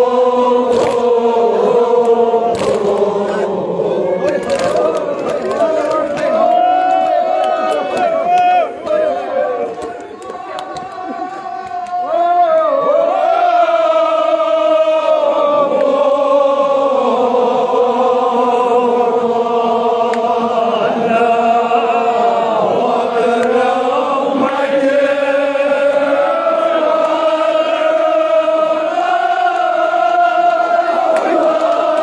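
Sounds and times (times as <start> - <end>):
men chanting a lament in unison: 0.0 - 32.0.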